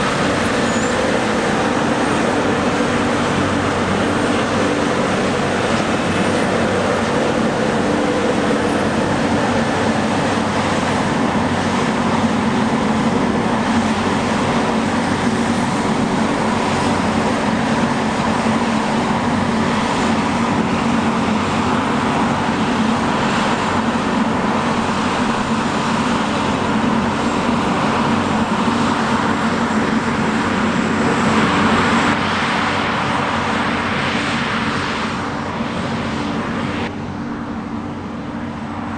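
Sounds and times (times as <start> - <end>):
diesel machinery engine hum: 0.0 - 38.9.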